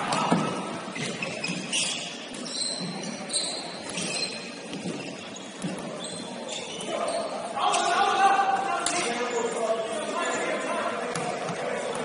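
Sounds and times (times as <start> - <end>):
sneaker squeaks: 0.0 - 8.2, 8.9 - 12.0
murmur of large hall: 0.0 - 12.0.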